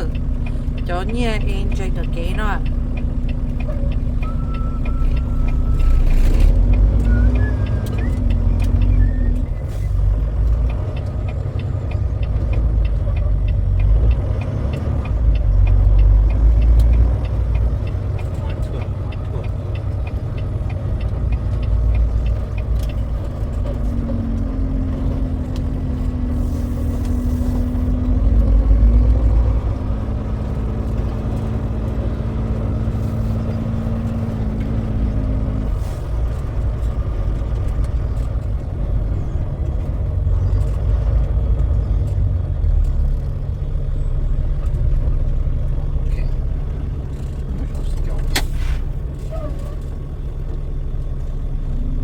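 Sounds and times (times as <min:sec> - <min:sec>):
truck engine and road rumble: 0:00.0 - 0:52.0.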